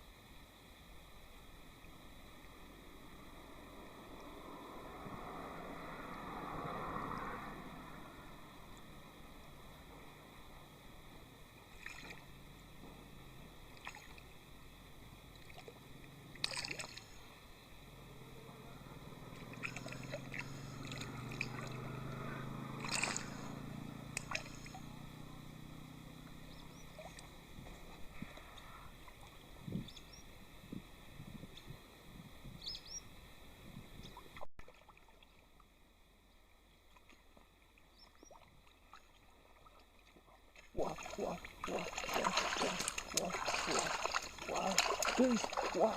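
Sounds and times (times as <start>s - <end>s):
faint outdoor ambience: 0.0s - 45.9s
low steady background noise: 0.0s - 45.9s
water splashing in a pond: 1.6s - 9.5s, 11.3s - 17.5s, 18.8s - 30.1s, 34.1s - 45.9s.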